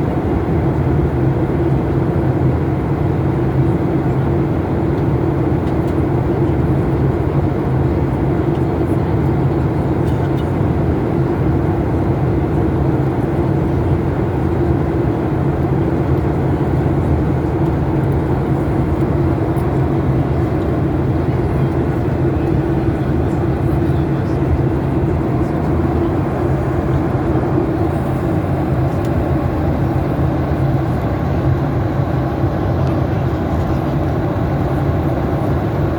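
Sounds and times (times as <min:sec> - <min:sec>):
airliner cabin engine drone: 0:00.0 - 0:35.9.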